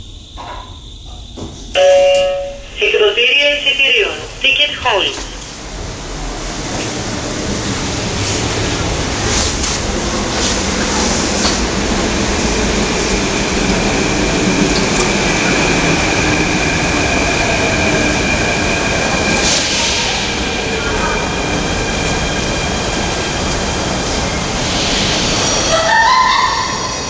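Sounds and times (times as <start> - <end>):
high-pitched train whine: 0.0 - 27.0
metro train rumbling in: 0.0 - 27.0.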